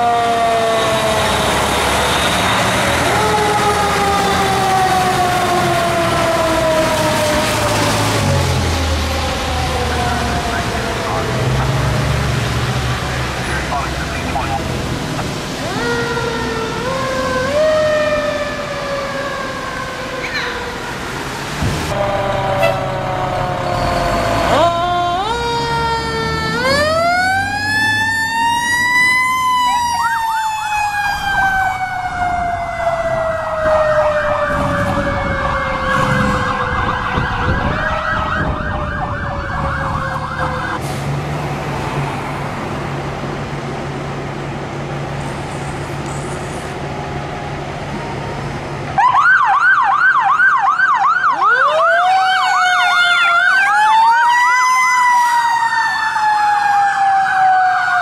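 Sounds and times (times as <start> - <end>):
siren rising and falling tones: 0.0 - 14.8, 15.6 - 40.8, 47.9 - 58.0.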